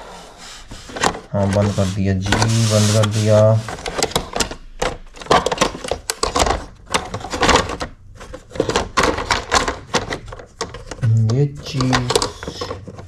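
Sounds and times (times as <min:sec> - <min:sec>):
plastic trays clicking and clattering: 0:00.8 - 0:13.0.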